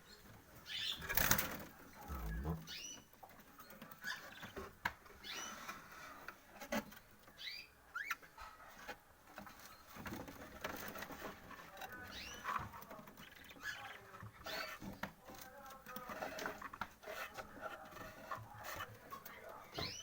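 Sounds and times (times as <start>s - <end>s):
small birds chirping: 0.0s - 6.2s, 6.9s - 20.0s
birds tapping and scratching in cage: 0.0s - 20.0s.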